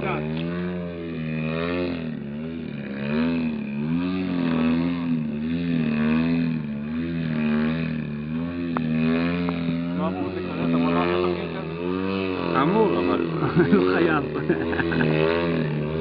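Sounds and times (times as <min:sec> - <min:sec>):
model plane engine: 0:00.0 - 0:16.0.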